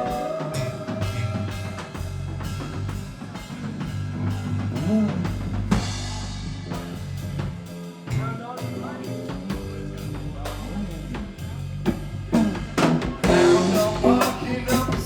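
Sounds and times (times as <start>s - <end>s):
drum kit beat: 0.0s - 15.0s
live rock band playing: 0.0s - 15.0s.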